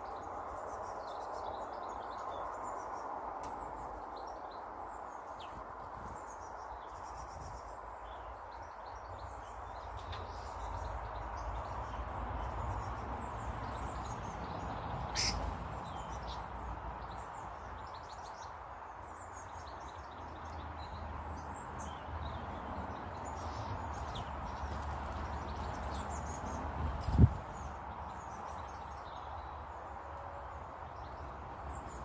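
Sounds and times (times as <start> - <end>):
garden birds chirping: 0.0 - 32.0.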